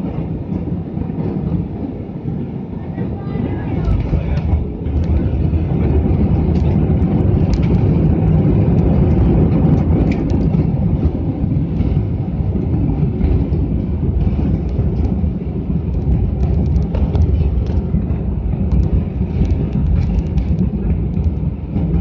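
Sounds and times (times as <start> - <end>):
engines and wheels rumbling: 0.0 - 22.0.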